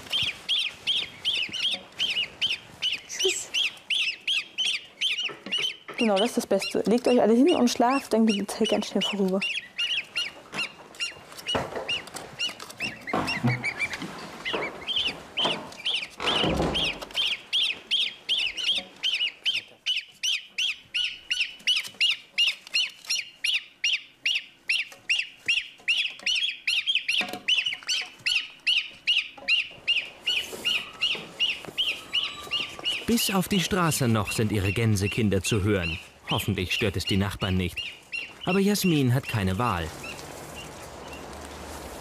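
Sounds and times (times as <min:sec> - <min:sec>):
rustling: 0:00.0 - 0:23.6, 0:24.7 - 0:42.0
goslings peeping: 0:00.0 - 0:42.0.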